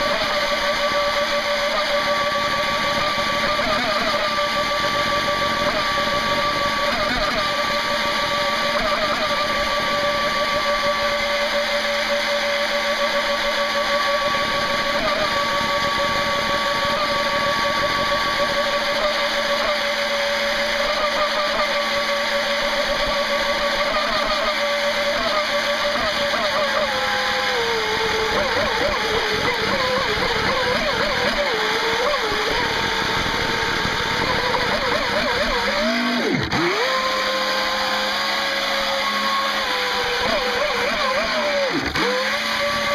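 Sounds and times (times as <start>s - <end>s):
electric boat motor whining: 0.0s - 42.9s.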